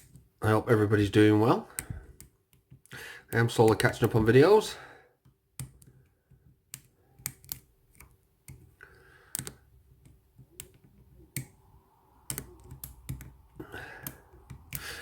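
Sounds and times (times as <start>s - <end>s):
lock picking clicks and taps: 0.0s - 0.3s, 1.7s - 4.2s, 5.2s - 11.6s, 12.2s - 15.0s.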